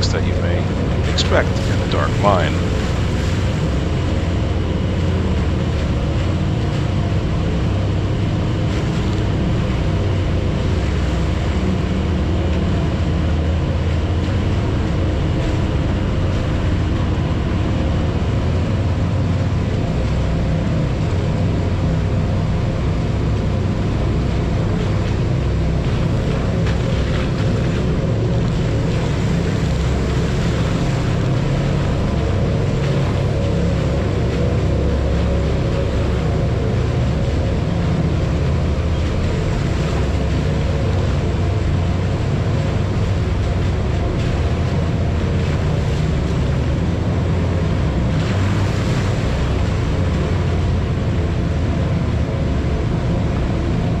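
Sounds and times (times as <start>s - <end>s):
utility vehicle engine running: 0.0s - 54.0s.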